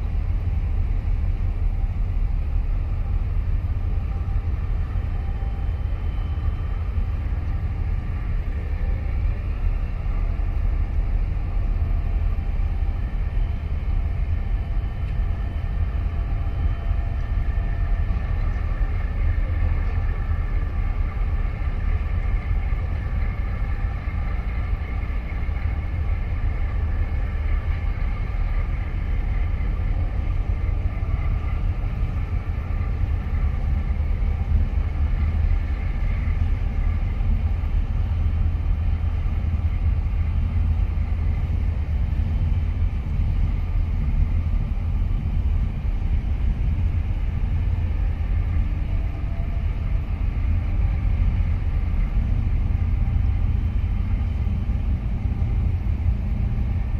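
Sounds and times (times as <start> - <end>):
faint steady hums: 0.0 - 56.9
ship engine low rumble: 0.0 - 56.9.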